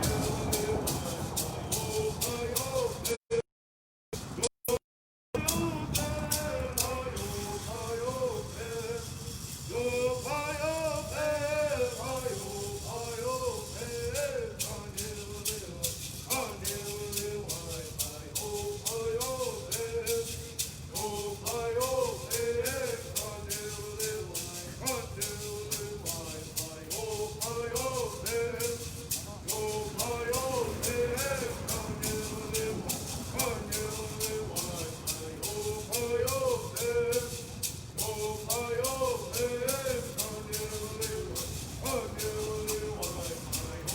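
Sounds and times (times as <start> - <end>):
gourd rattles shaking: 0.0 - 3.1, 5.4 - 43.9
men singing in unison: 0.0 - 3.4, 5.4 - 43.9.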